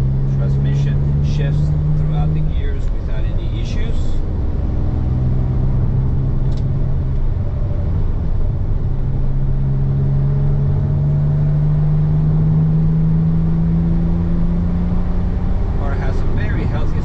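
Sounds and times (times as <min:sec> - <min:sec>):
car engine: 0:00.0 - 0:17.0
road noise: 0:00.0 - 0:17.0.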